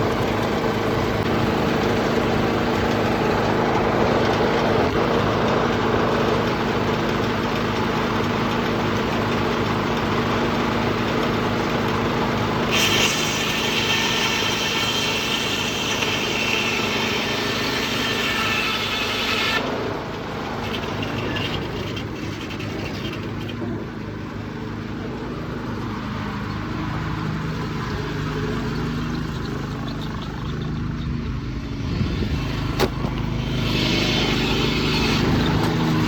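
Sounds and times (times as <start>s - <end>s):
diesel engine droning: 0.0s - 36.0s.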